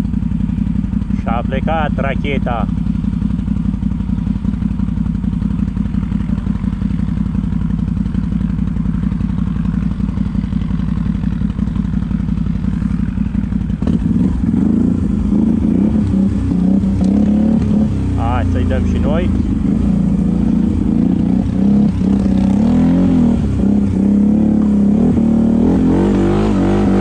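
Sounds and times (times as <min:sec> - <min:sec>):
atv engine revving: 0:00.0 - 0:27.0.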